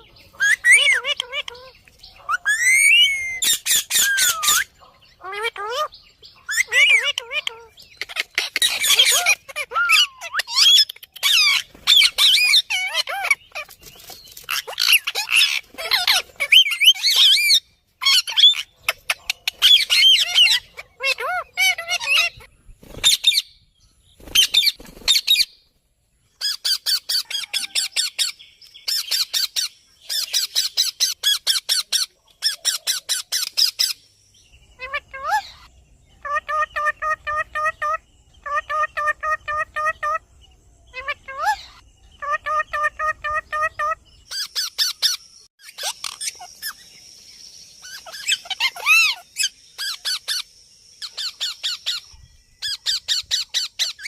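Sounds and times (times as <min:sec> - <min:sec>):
parrots squawking and chattering: 0:00.0 - 0:23.6, 0:24.2 - 0:25.6, 0:26.4 - 0:34.1, 0:34.7 - 0:47.0, 0:47.8 - 0:54.0.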